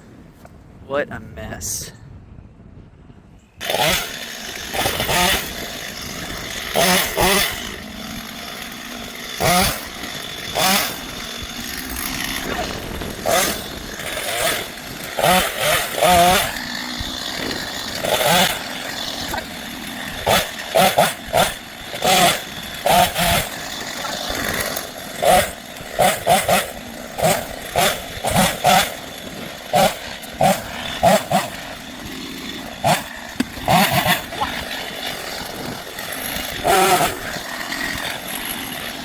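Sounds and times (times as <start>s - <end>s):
chainsaw revving: 3.6s - 39.0s.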